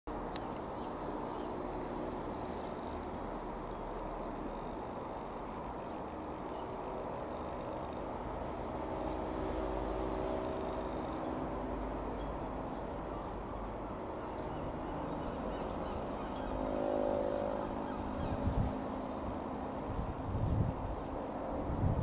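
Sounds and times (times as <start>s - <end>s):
light aircraft engine and propeller: 0.1s - 22.0s.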